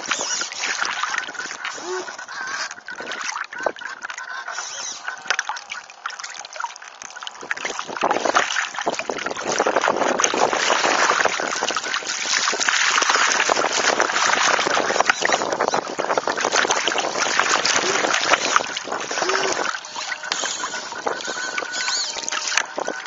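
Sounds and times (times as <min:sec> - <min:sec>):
water rushing against hull: 0:00.0 - 0:23.0.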